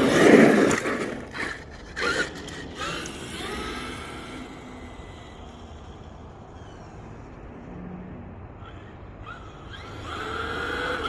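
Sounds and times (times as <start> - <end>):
electric motor whining: 0.0 - 7.8, 8.6 - 11.0.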